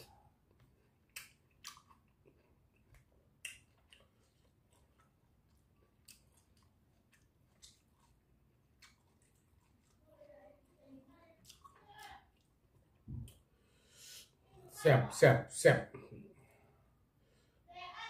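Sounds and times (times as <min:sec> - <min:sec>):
faint chewing of food: 0:00.0 - 0:14.5.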